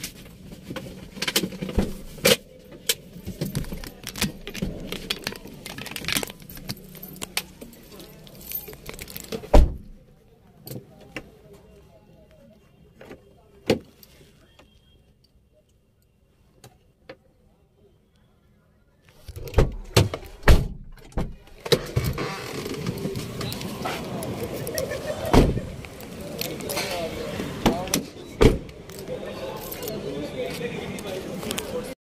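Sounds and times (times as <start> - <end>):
steady background noise: 0.0 - 32.0.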